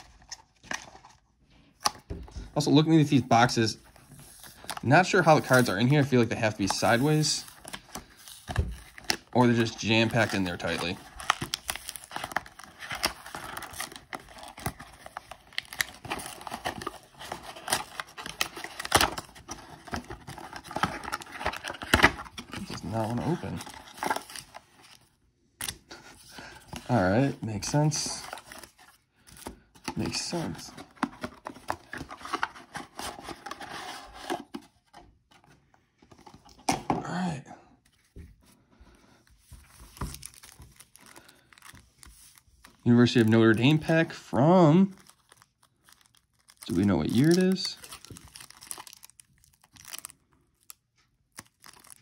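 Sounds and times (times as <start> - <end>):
cardboard crinkling and scraping: 0.0 - 25.2, 25.8 - 37.2, 39.3 - 52.0.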